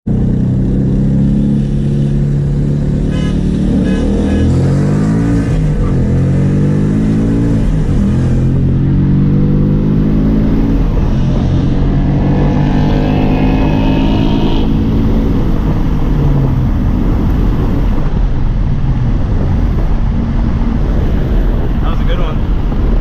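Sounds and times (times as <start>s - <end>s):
car engine revving: 0.1s - 23.0s.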